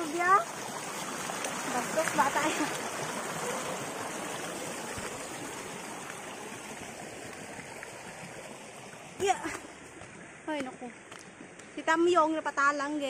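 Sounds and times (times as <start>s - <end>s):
stream rushing over stones: 0.0s - 12.1s.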